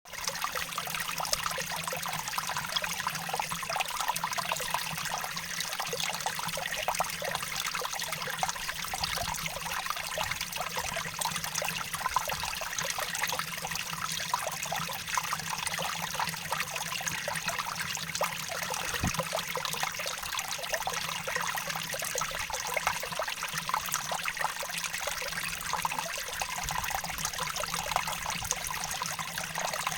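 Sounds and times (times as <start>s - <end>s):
stream water running and splashing: 0.1s - 29.9s.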